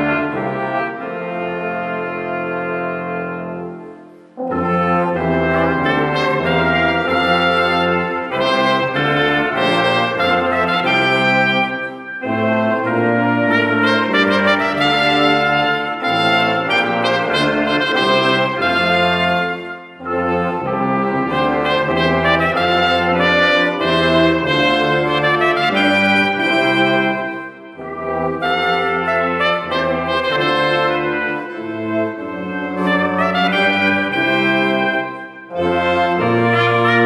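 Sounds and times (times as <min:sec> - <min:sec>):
brass ensemble playing: 0:00.0 - 0:37.0.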